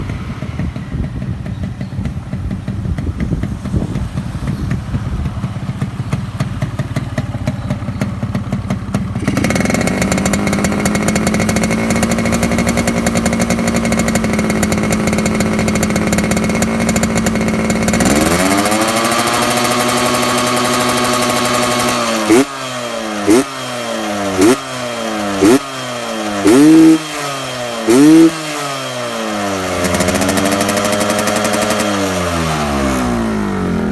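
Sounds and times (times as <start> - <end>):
two-stroke motorcycle engine revving: 0.0 - 33.9.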